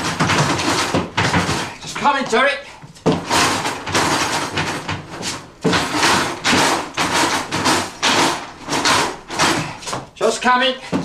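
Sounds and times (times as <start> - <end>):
jammed drawer banging: 0.0 - 2.4, 3.0 - 10.1.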